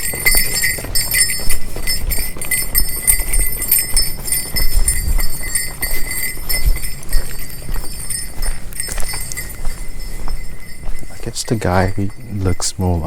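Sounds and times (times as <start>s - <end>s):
bear bell jingling: 0.0s - 13.0s
footsteps on trail: 0.0s - 13.0s.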